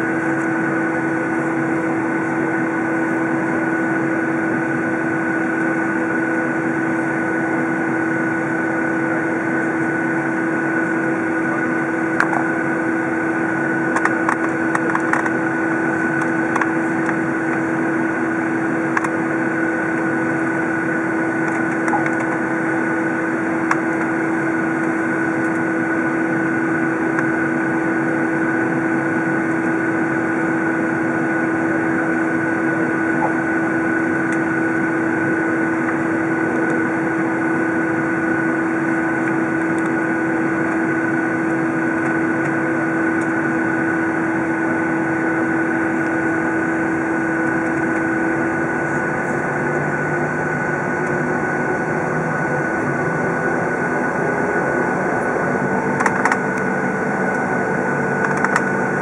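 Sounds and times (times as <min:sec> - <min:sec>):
deeper hum: 0:00.0 - 0:59.0
jet engines idling with high whine: 0:00.0 - 0:59.0.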